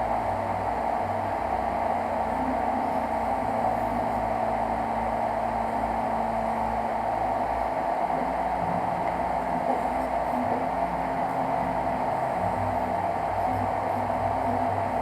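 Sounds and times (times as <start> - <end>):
cooling fans whooshing: 0.0 - 15.0
stepper motors humming: 0.0 - 15.0.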